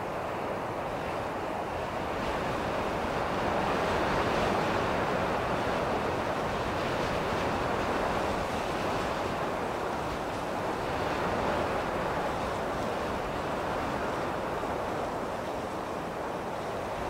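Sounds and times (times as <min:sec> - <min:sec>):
strong gusty wind: 0:00.0 - 0:17.0.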